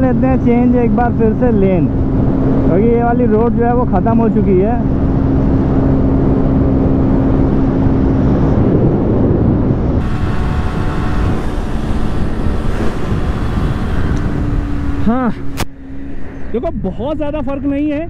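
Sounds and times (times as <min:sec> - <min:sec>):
heavy wind rush: 0:00.0 - 0:18.0
motorcycle engine cruising: 0:00.0 - 0:18.0.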